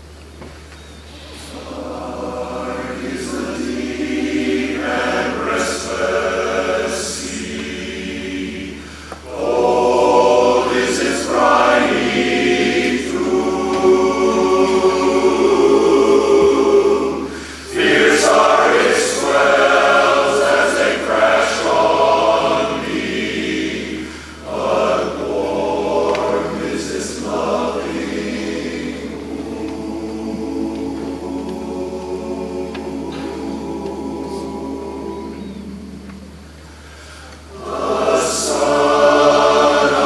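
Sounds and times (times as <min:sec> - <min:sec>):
male chorus singing a cappella: 0:01.1 - 0:40.0.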